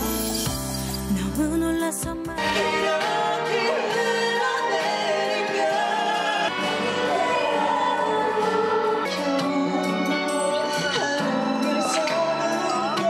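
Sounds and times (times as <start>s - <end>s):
soft backing music: 0.0s - 13.0s
man and woman singing duet: 1.1s - 13.0s.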